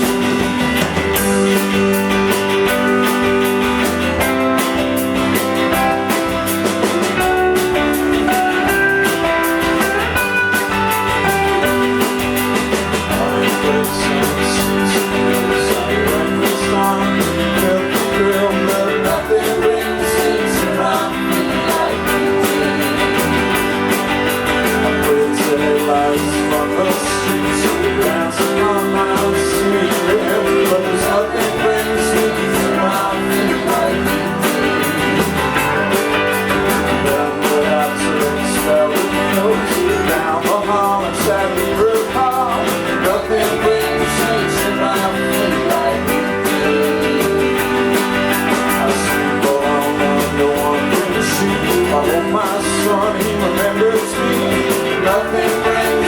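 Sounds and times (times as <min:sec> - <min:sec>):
person singing: 0:00.0 - 0:03.4, 0:04.1 - 0:56.0
drum beat: 0:00.0 - 0:56.0
guitars: 0:00.0 - 0:56.0.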